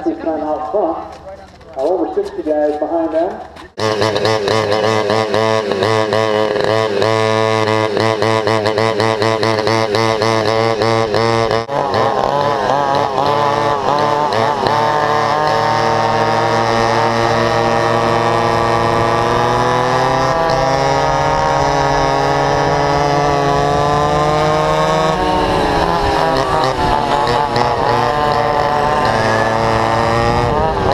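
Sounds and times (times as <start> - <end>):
go-kart engines revving: 0.0 - 30.9.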